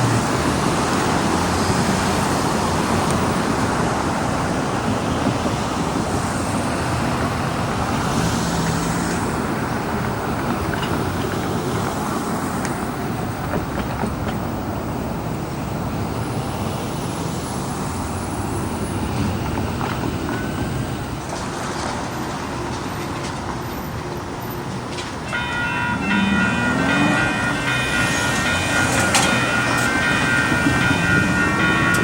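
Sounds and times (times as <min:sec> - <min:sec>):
road traffic passing: 0:00.0 - 0:32.0.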